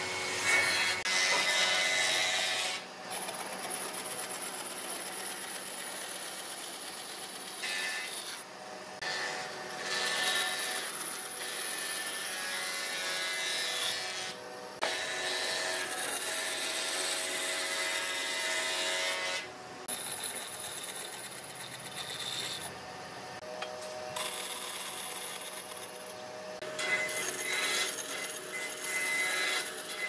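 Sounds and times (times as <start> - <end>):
band saw cutting wood: 0.0 - 30.0.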